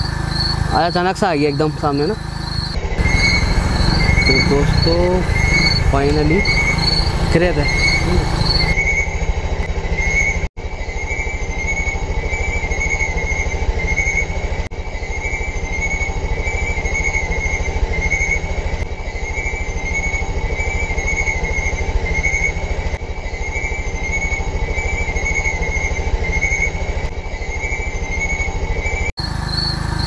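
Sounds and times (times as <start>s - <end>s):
night insects chirping: 0.0s - 9.2s, 14.8s - 30.0s
motorcycle engine idling: 0.0s - 30.0s.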